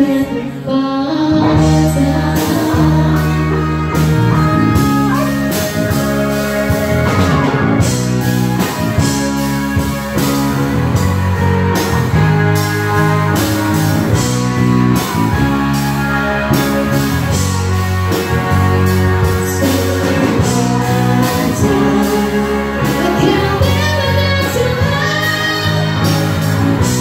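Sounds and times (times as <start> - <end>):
bass guitar: 0.0 - 27.0
electric guitar melody: 0.0 - 27.0
keyboard: 0.0 - 27.0
steady drum beat: 1.7 - 27.0.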